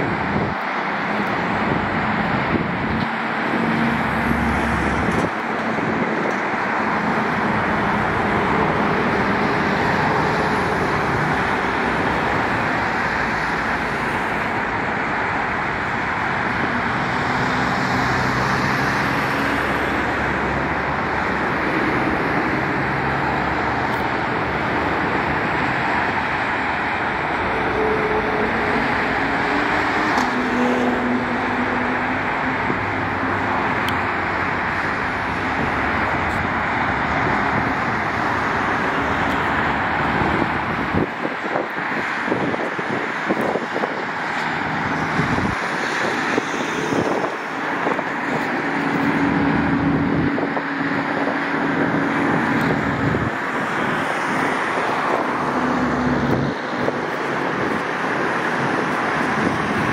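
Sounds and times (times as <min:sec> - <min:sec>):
highway traffic rushing: 0:00.0 - 0:59.9
low hum of engines: 0:00.0 - 0:59.9.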